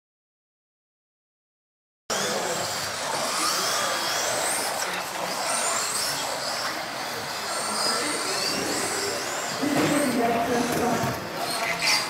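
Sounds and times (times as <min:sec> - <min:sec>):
rc car motors whining: 0:02.1 - 0:12.0.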